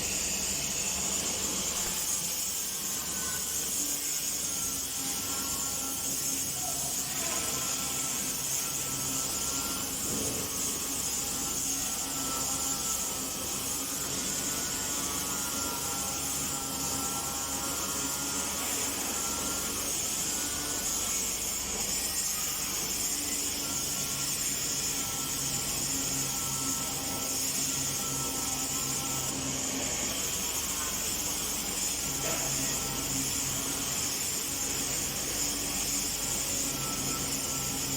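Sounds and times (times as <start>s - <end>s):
grinder motor whine: 0.0s - 37.9s.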